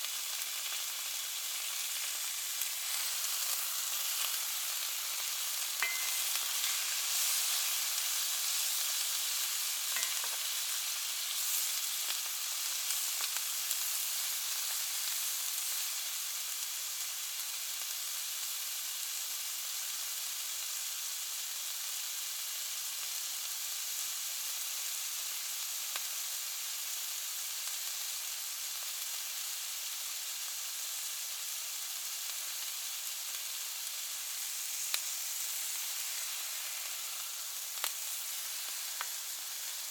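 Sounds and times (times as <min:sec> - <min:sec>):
meat sizzling in a pan: 0:00.0 - 0:39.9.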